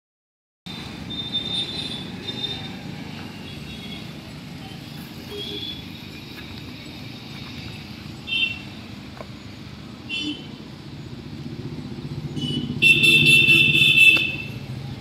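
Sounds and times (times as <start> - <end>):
low outdoor rumble: 2.2 - 15.0.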